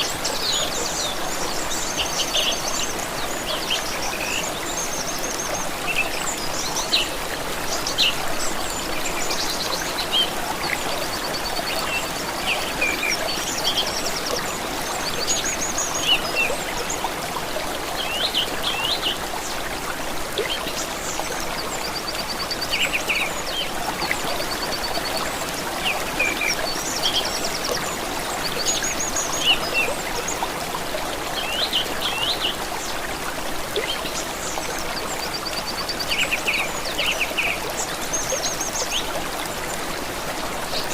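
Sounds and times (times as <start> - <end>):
stream of water running: 0.0 - 40.9.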